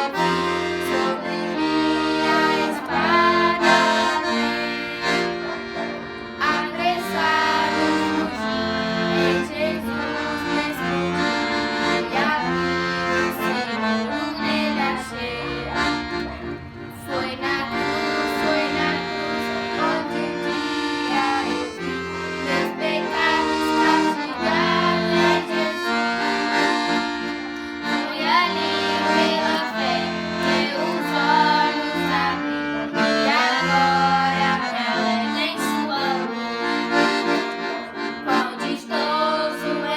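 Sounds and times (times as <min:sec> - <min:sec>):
accordion playing worship tune: 0:00.0 - 0:39.9.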